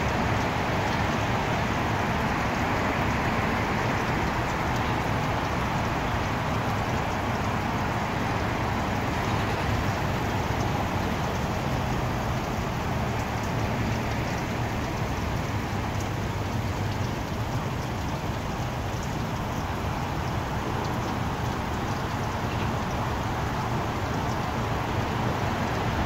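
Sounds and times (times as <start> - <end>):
street noise: 0.0 - 26.0.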